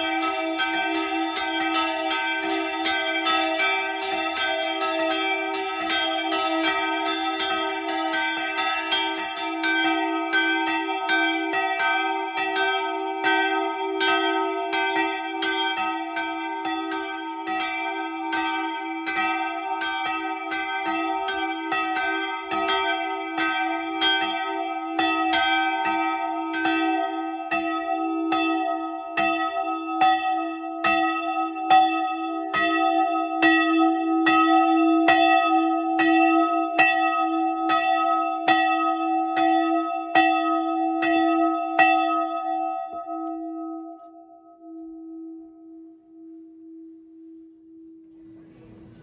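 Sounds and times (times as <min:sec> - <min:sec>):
church bell ringing: 0:00.0 - 0:49.0.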